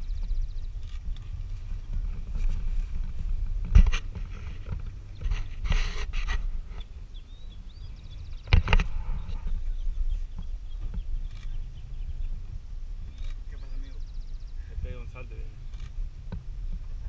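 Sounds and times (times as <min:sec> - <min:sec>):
birds chirping: 0:00.0 - 0:17.0
low steady rumble: 0:00.0 - 0:17.0.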